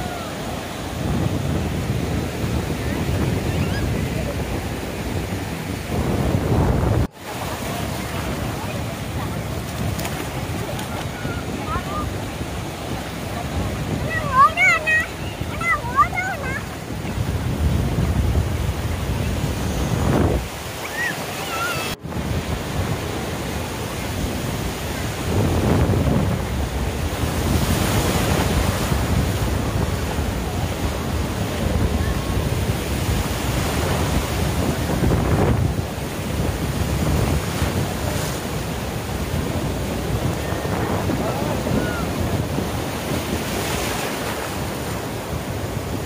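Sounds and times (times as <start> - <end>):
waves breaking: 0.0 - 46.0
wind rumbling on microphone: 0.0 - 46.0.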